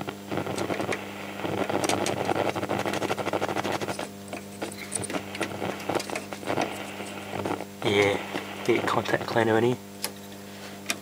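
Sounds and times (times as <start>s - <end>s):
radio static crackle: 0.0s - 10.2s
radio speaker mains hum: 0.0s - 11.0s.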